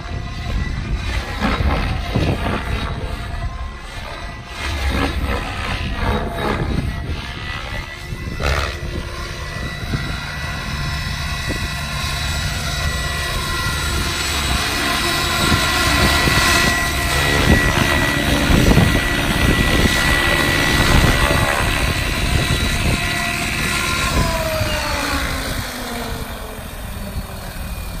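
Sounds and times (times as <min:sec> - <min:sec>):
rc helicopter motor whine: 0:00.0 - 0:28.0.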